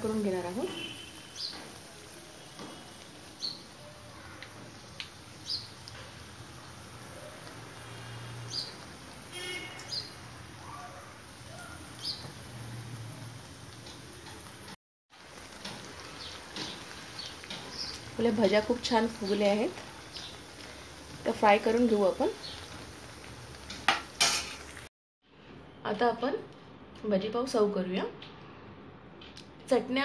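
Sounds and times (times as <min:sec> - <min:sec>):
food deep-frying in oil: 0:00.0 - 0:24.9.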